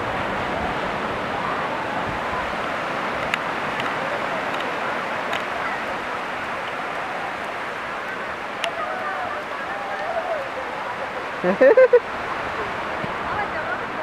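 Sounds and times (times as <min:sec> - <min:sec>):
surf breaking on a beach: 0:00.0 - 0:14.0
faint distant voices: 0:00.5 - 0:14.0.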